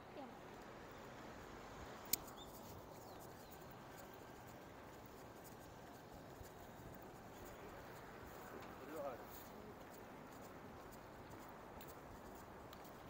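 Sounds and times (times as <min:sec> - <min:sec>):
city street background noise: 0:00.0 - 0:13.0
faint ticks: 0:02.0 - 0:13.0.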